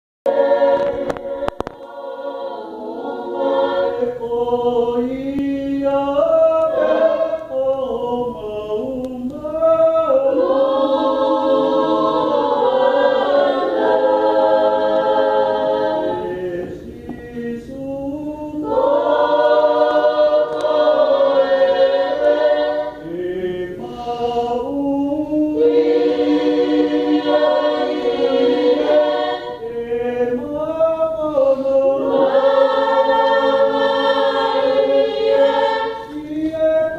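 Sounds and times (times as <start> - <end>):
choir singing unaccompanied: 0.3 - 36.9.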